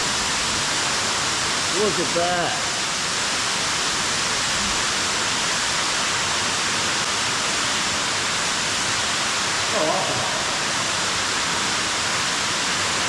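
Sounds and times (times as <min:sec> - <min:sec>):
waterfall roar: 0:00.0 - 0:13.0.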